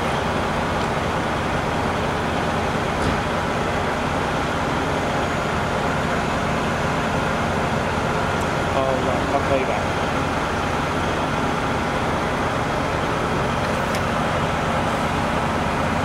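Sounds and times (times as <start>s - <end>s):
large engine droning: 0.0s - 16.0s.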